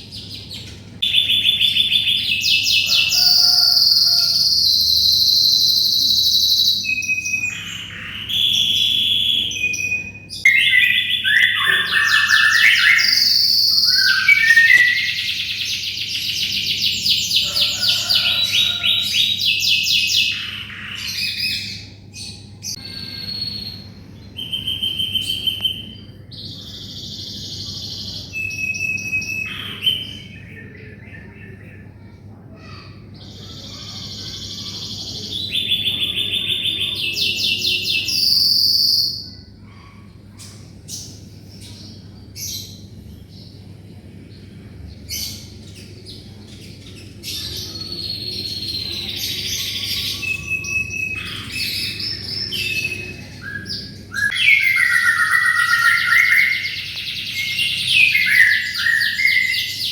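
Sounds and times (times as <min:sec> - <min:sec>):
canary singing trills: 0:00.0 - 0:43.7, 0:45.0 - 0:59.9.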